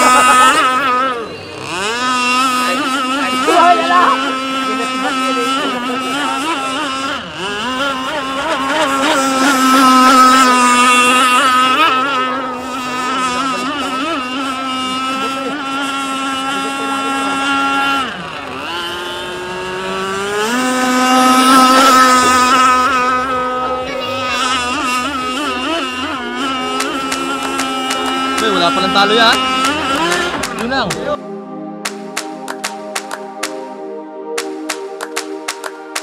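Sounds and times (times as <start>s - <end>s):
model boat motor droning: 0.0s - 36.0s.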